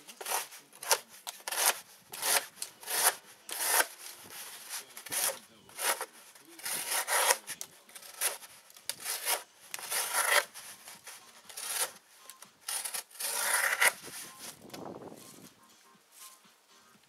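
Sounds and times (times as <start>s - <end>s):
knife slicing cardboard: 0.0s - 12.0s, 12.6s - 14.7s.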